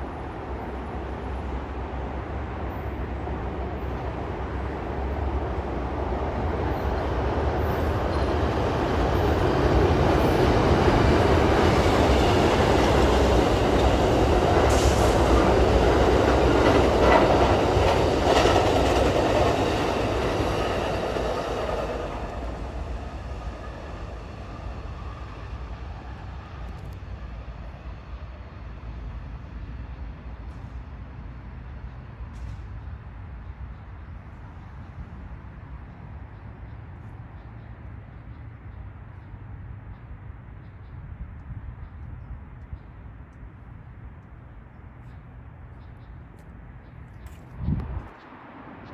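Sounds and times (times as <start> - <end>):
train wheels rumbling on rails: 0.0 - 39.4
passenger train rolling past: 0.0 - 39.6.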